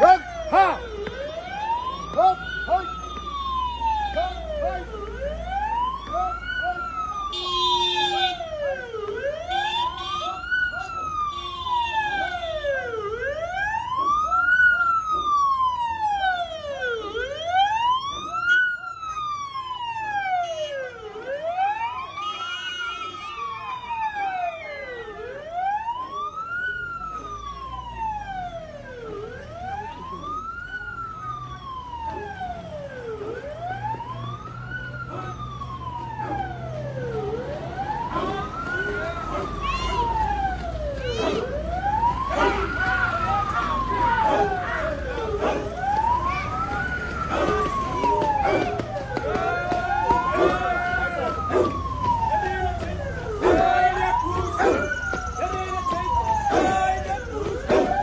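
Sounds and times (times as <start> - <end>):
vehicle siren wailing: 0.0 - 58.0.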